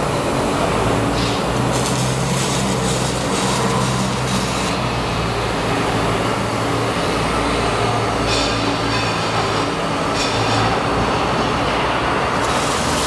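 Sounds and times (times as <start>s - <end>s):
harsh high welding hiss: 0.0s - 5.9s, 8.2s - 13.0s.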